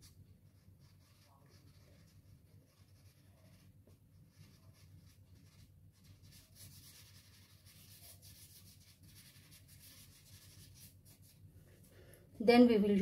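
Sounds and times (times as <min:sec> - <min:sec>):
pastel stick scratching on paper: 0:00.0 - 0:11.4.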